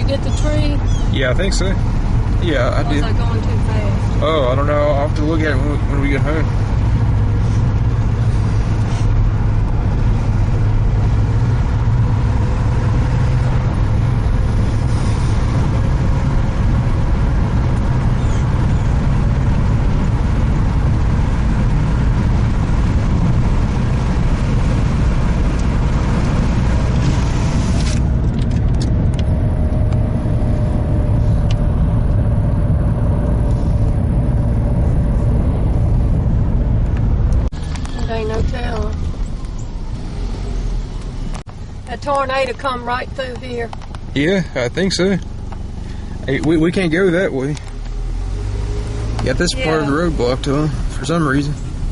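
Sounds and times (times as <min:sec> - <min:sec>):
car engine and road rumble: 0:00.0 - 0:51.9.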